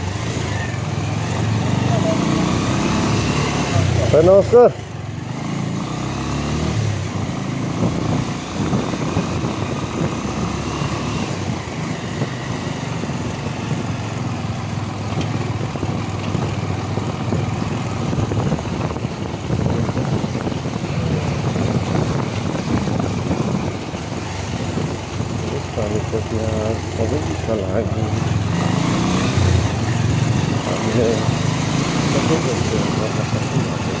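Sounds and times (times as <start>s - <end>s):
heavy wind noise: 0.0s - 34.0s
motorcycle engine running: 0.0s - 34.0s.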